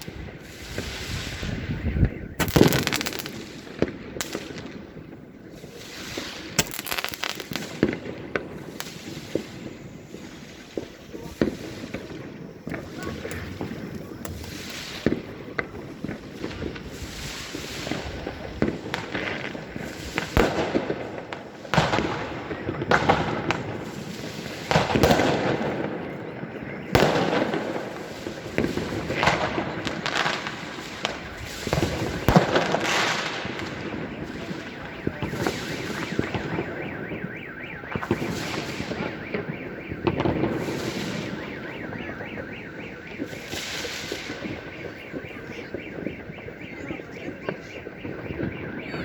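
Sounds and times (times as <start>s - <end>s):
firework crackle: 0.0s - 49.0s
fireworks banging: 0.0s - 49.0s.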